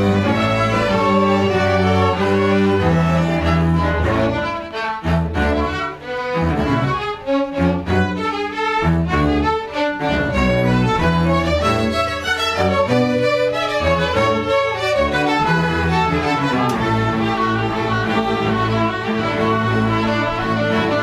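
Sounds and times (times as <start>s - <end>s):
string ensemble playing: 0.0s - 21.0s.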